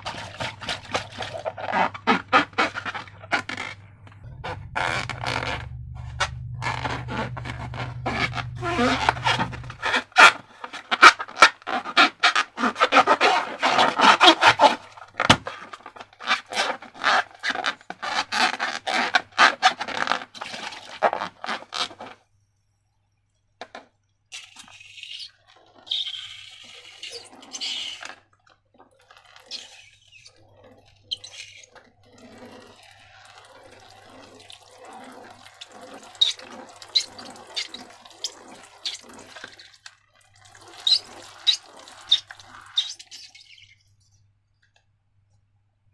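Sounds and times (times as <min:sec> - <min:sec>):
slime squelching: 0:00.0 - 0:22.2, 0:24.4 - 0:44.2.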